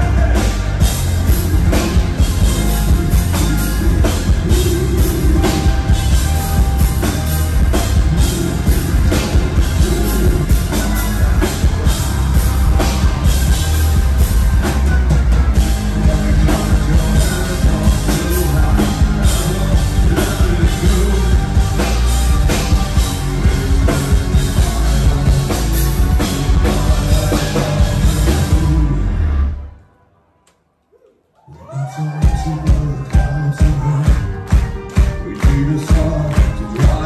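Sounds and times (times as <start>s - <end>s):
drum kit steady beat: 0.0s - 28.8s, 32.5s - 37.0s
rock band playing live: 0.0s - 29.6s, 32.1s - 37.0s.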